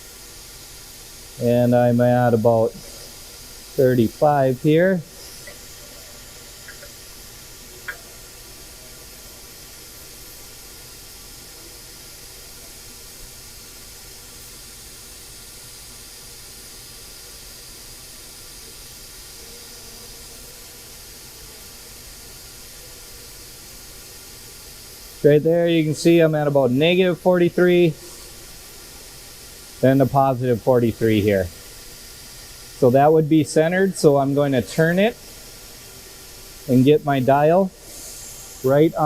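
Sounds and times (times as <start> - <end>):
faint background hum: 0.0 - 39.0
steady hiss: 0.0 - 39.0.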